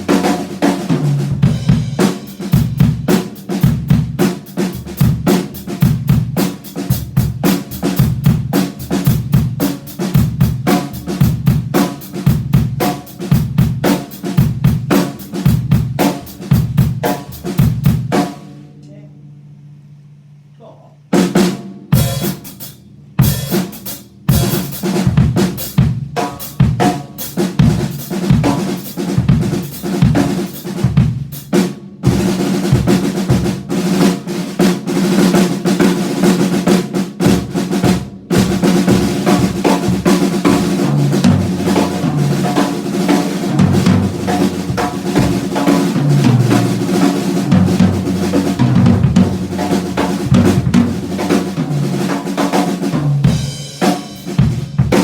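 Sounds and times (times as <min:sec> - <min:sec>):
electronic drum kit playing: 0:00.0 - 0:18.4, 0:21.2 - 0:55.0.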